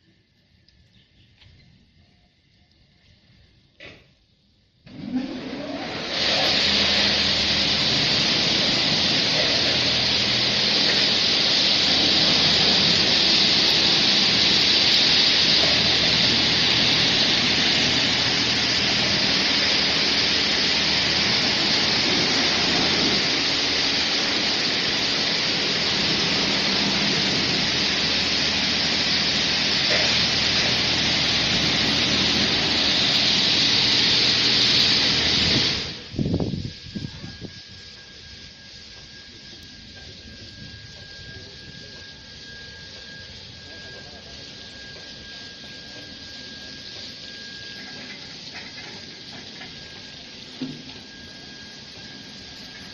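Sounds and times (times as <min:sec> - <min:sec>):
low pump hum: 0:00.0 - 0:52.9
high-pressure water jets hissing: 0:05.0 - 0:52.9.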